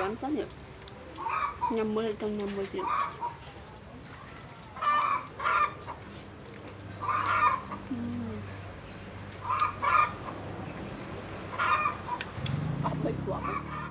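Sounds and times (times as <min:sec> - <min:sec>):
chickens clucking: 0:00.4 - 0:13.9.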